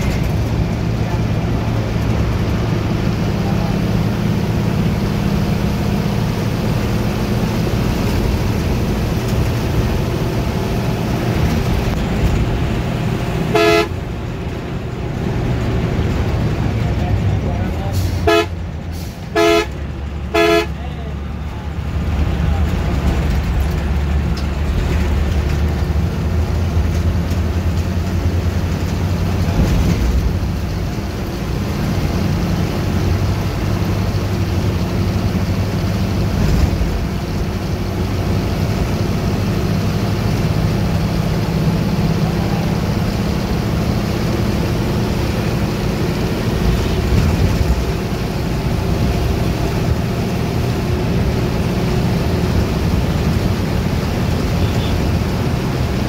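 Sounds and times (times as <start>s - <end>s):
bus diesel engine drone: 0.0s - 56.0s
road and tyre noise: 0.0s - 56.0s.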